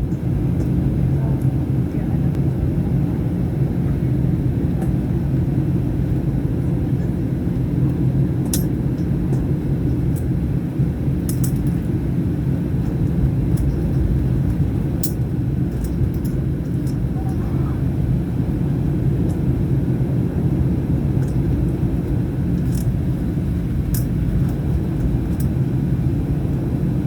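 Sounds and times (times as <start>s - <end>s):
jet engine cabin rumble: 0.0s - 27.0s.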